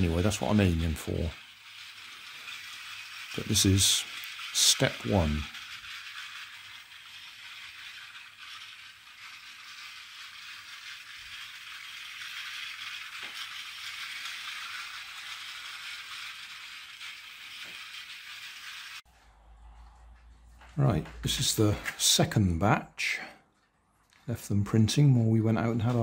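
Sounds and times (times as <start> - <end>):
toy train motor rattle: 0.0 - 26.0.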